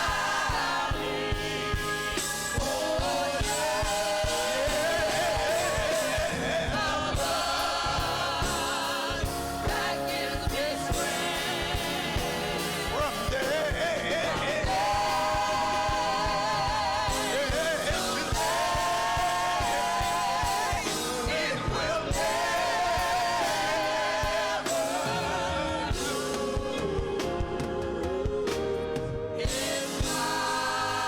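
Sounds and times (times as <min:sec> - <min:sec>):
band with steady drum beat: 0:00.0 - 0:31.0
gospel singers: 0:00.0 - 0:31.0.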